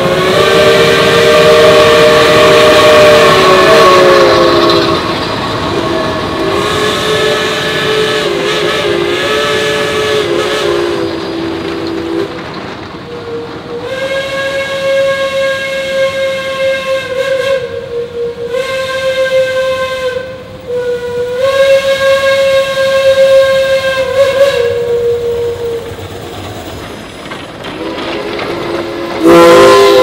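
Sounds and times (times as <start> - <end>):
three-chime steam whistle: 0.0 - 12.4, 13.1 - 26.0, 29.2 - 30.0
steam hissing: 0.0 - 30.0.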